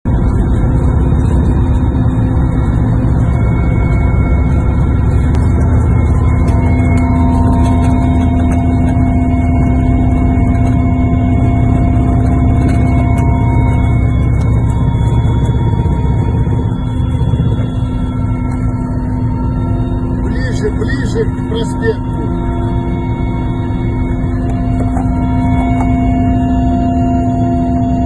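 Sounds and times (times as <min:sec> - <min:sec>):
helicopter drone: 0:00.1 - 0:28.0
high whining tones: 0:00.1 - 0:28.0.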